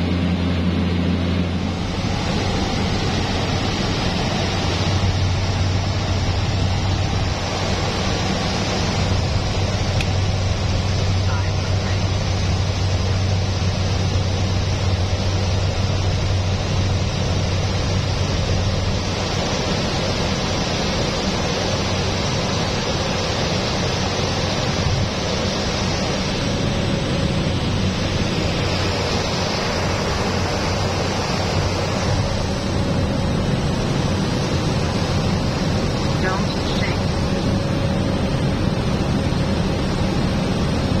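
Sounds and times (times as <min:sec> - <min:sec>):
propeller plane engine drone: 0:00.0 - 0:41.0
rushing air: 0:00.0 - 0:41.0.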